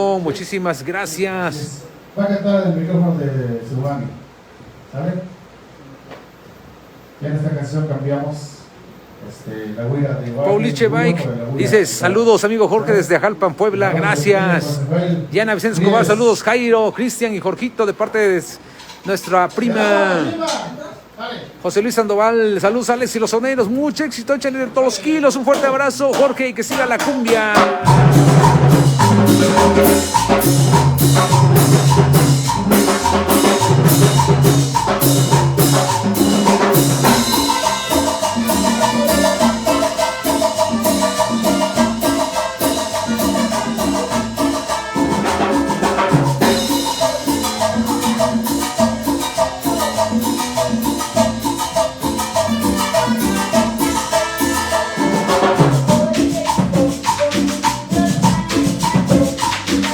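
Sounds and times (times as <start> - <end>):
cumbia band playing: 0.0 - 2.2, 10.4 - 20.8, 22.6 - 59.9.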